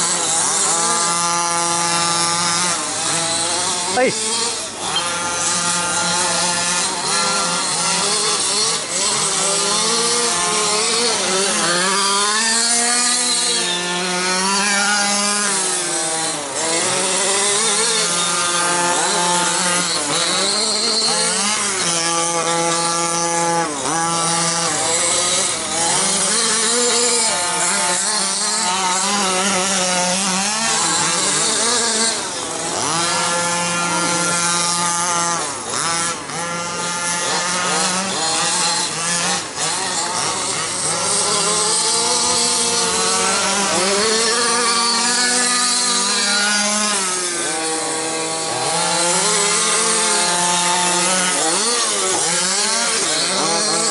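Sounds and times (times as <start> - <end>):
small two-stroke engines revving: 0.0 - 53.9.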